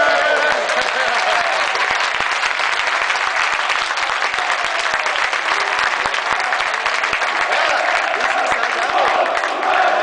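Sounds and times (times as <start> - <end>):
crowd cheering: 0.0 - 10.0
crowd clapping: 0.0 - 10.0.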